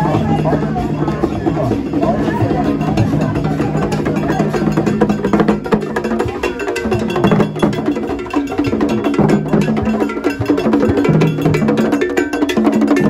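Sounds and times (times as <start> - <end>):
drums struck with sticks: 0.0 - 13.0.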